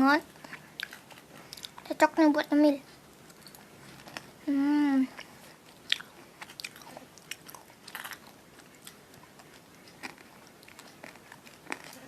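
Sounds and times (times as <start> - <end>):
person chewing chocolate: 0.3 - 2.0, 2.9 - 12.0.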